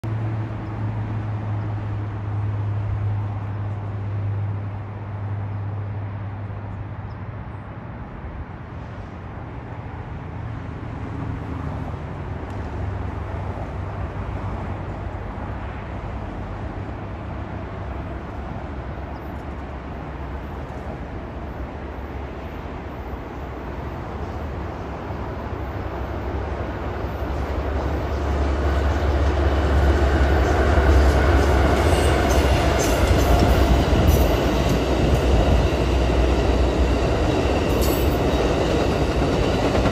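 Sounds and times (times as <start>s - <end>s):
distant road traffic rumble: 0.0s - 39.9s.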